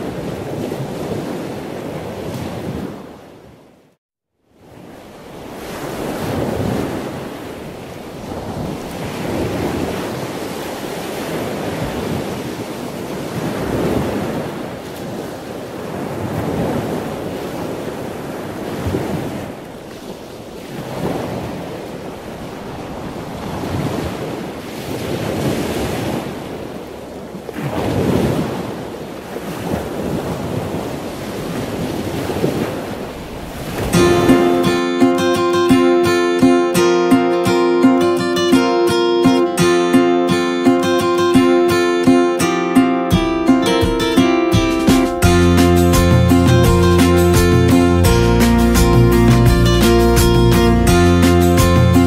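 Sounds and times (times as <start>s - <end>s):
waves breaking and washing in: 0.0s - 52.0s.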